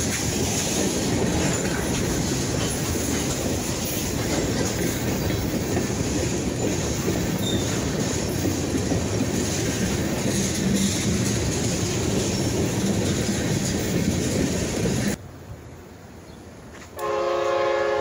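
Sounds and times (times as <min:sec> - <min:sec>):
freight train wheels rumbling on rails: 0:00.0 - 0:15.6.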